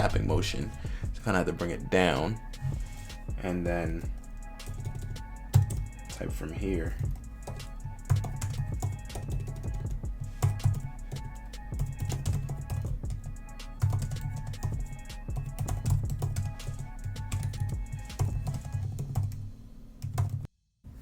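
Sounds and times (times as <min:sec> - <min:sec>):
background music with strong bass: 0:00.0 - 0:19.5.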